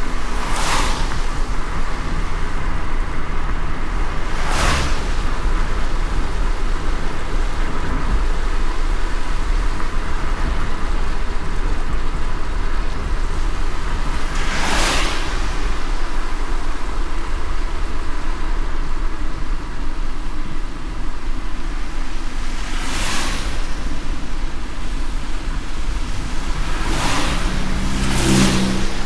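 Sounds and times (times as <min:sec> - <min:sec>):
car road rumble: 0:00.0 - 0:29.0
rain hiss: 0:00.0 - 0:29.0
tyre swish on wet road: 0:00.0 - 0:29.0.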